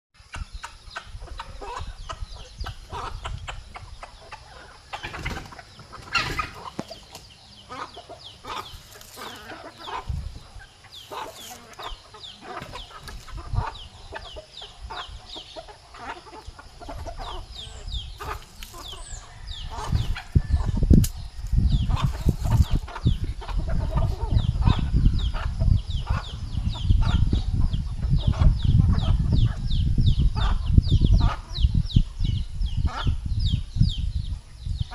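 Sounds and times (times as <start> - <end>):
chickens clucking and peeping: 0.2 - 34.9.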